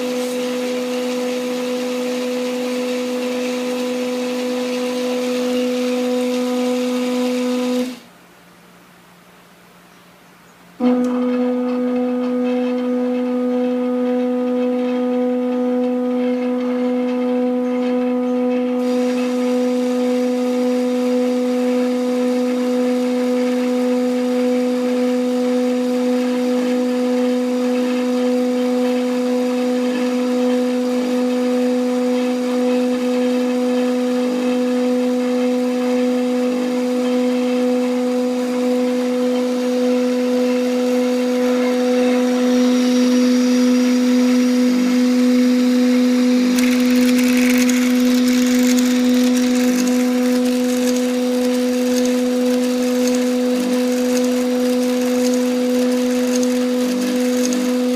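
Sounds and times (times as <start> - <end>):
steady mechanical hum: 0.0 - 57.9.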